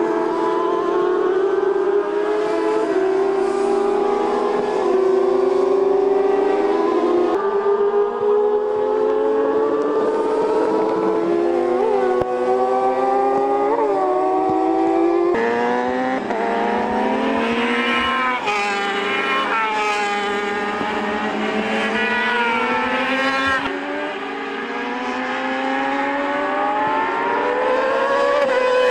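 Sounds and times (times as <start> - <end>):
engine rev blips on downshifts: 0.0 - 28.9
racing motorcycle engines revving: 0.0 - 28.9.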